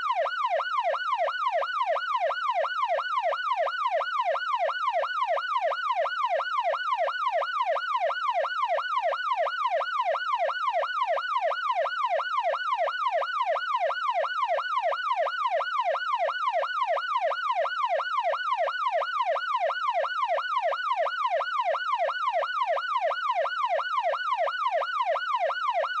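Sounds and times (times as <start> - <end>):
police siren yelping: 0.0 - 26.0.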